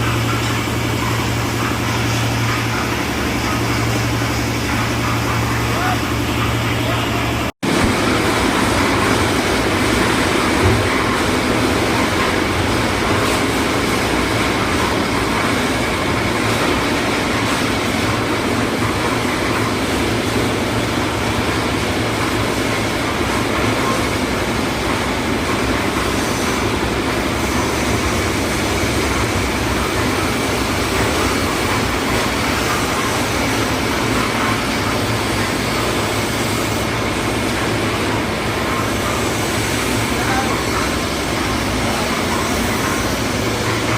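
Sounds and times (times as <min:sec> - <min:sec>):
concrete mixer running: 0:00.0 - 0:43.9.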